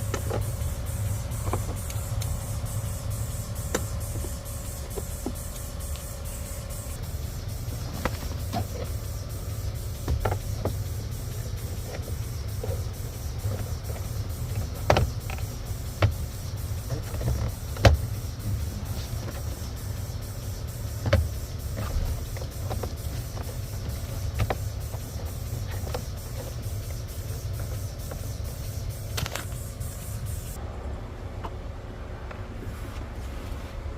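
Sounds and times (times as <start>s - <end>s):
steady low rumble: 0.0s - 33.2s.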